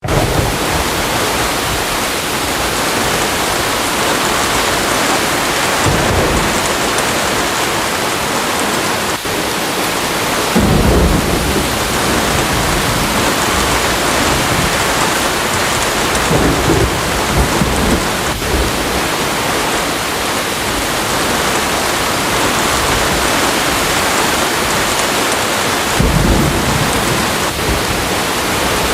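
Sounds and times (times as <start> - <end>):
heavy rain: 0.0 - 28.9
thunder rumbling: 0.0 - 28.9.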